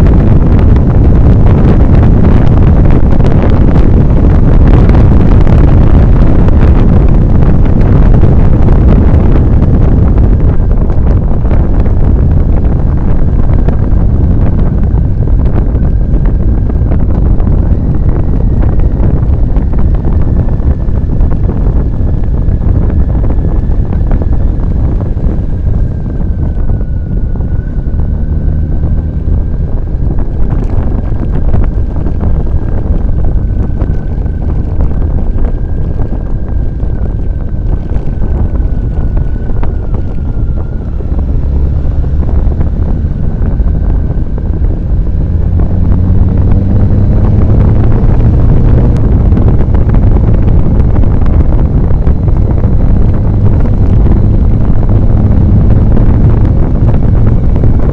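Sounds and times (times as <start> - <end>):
faint high whine: 0.0 - 49.8
motorcycle engine running: 0.0 - 57.9
wind buffeting microphone: 0.0 - 57.9.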